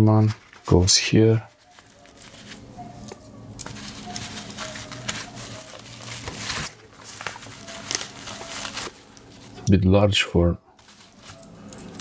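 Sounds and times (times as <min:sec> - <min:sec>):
fabric pouch rustling: 0:00.3 - 0:09.7, 0:10.8 - 0:12.0.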